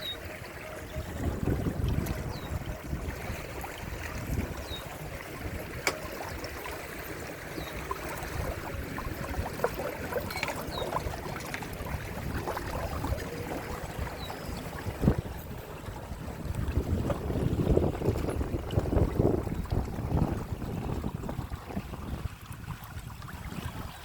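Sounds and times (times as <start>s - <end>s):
water gurgling along hull: 0.0s - 24.0s.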